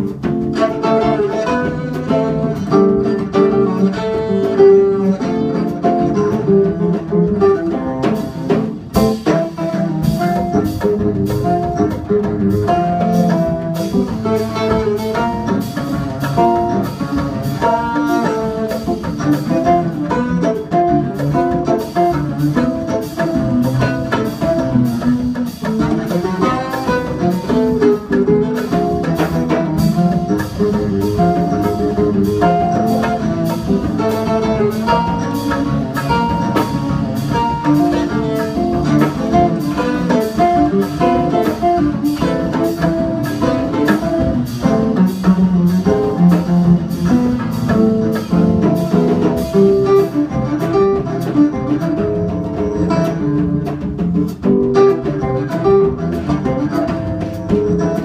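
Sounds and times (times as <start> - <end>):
cello melody: 0.0 - 58.0
drum kit beat: 0.0 - 58.0.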